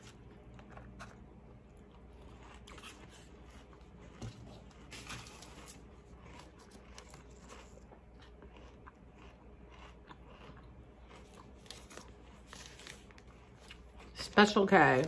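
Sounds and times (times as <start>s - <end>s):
faint cereal crunching: 0.0s - 15.0s.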